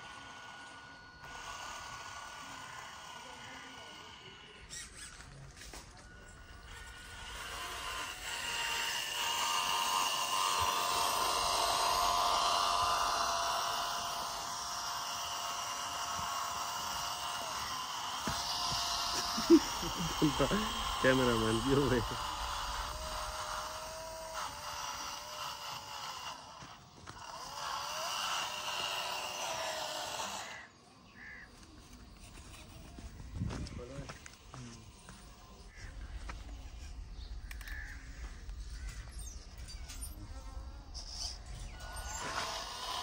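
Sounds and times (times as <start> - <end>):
small electric motor whining: 0.0 - 43.0
tines scraping through sandy soil: 0.0 - 43.0.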